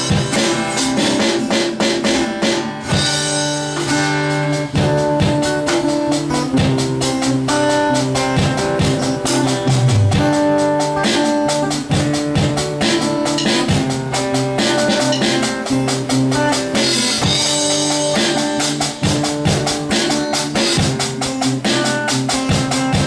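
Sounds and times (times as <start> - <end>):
acoustic guitar strumming chords: 0.0 - 23.0
electronic drum beat: 0.0 - 23.0.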